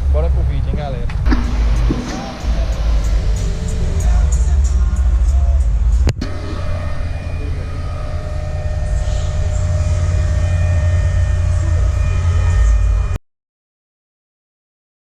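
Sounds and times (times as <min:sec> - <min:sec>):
loud car audio with heavy bass: 0:00.0 - 0:13.2.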